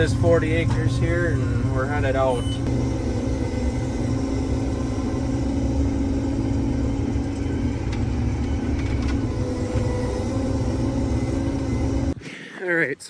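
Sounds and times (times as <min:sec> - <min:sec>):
combine harvester engine rumble: 0:00.0 - 0:12.2
steady hum: 0:00.0 - 0:12.2.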